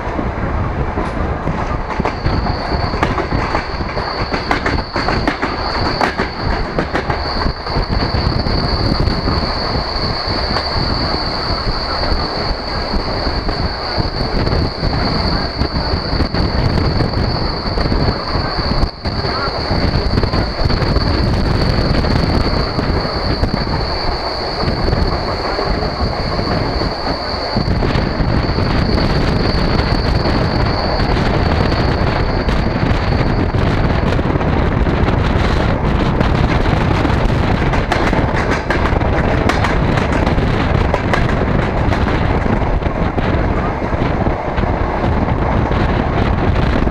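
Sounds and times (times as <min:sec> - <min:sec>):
high whine: 0:00.0 - 0:46.9
train rushing at speed: 0:00.0 - 0:46.9.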